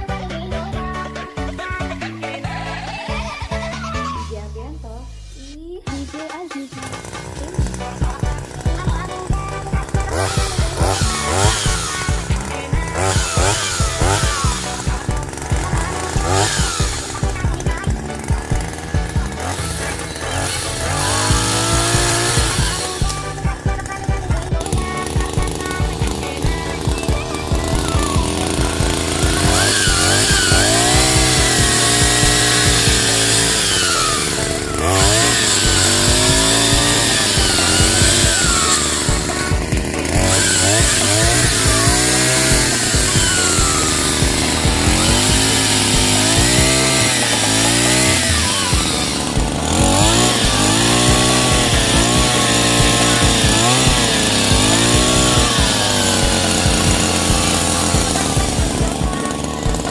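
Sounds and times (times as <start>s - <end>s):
chainsaw attachment cutting wood: 0.0s - 4.7s, 5.3s - 59.9s.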